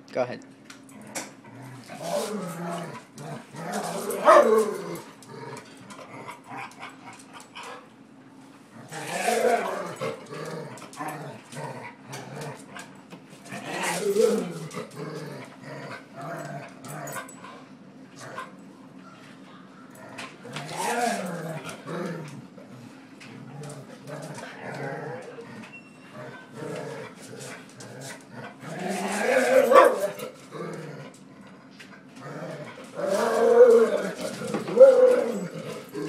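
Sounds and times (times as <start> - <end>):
dog growling: 0.9 - 7.2, 8.7 - 17.4, 19.9 - 31.6, 32.2 - 36.0.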